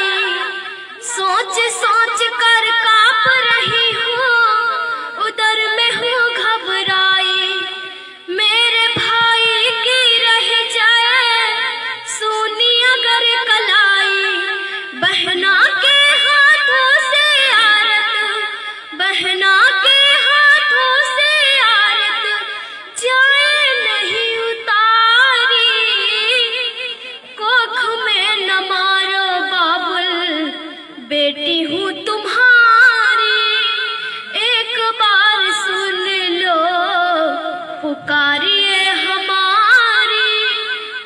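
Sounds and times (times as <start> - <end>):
girl singing into a microphone: 0.0 - 41.0.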